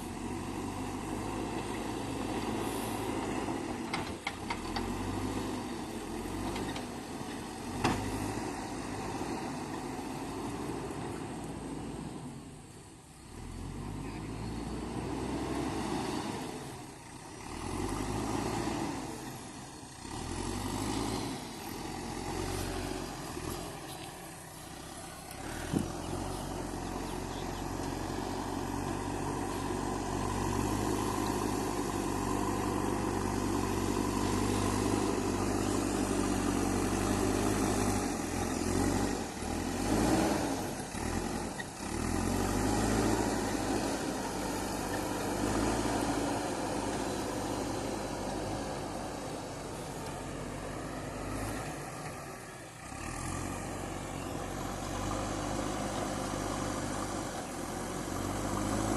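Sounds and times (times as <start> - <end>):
diesel engine working: 0.0 - 58.9.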